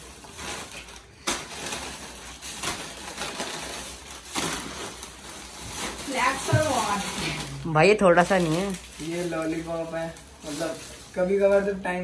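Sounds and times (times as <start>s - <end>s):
plastic bags and packets rustling: 0.0s - 12.0s.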